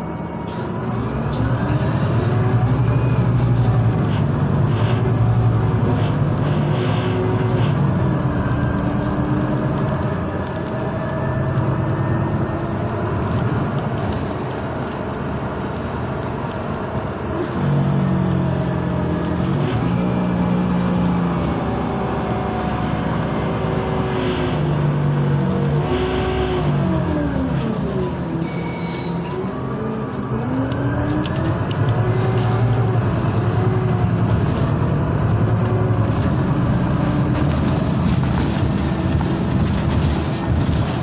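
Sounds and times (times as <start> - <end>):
bus engine hum: 0.0 - 41.0
road noise: 0.0 - 41.0.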